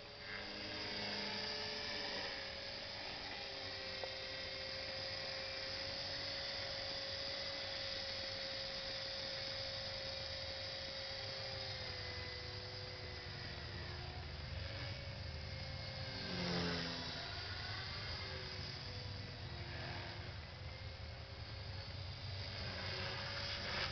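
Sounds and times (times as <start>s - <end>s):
rc helicopter rotor hum: 0.0s - 23.9s.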